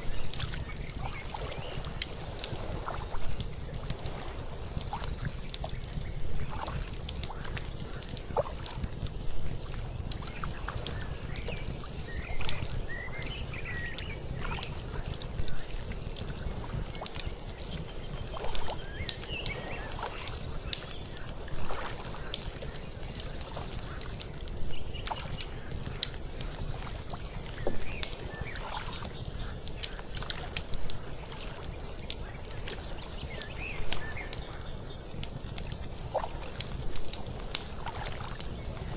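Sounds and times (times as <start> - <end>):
water lapping: 0.0 - 31.7, 35.5 - 38.9
fire crackling: 0.0 - 38.9.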